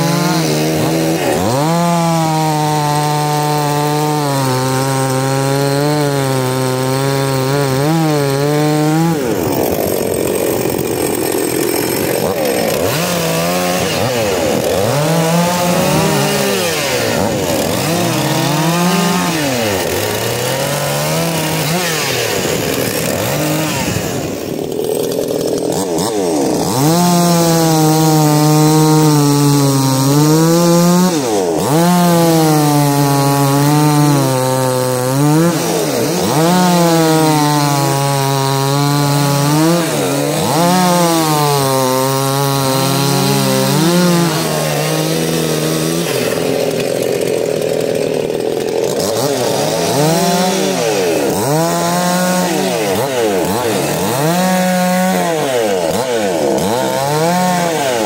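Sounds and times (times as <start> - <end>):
chainsaws cutting wood: 0.0 - 58.0.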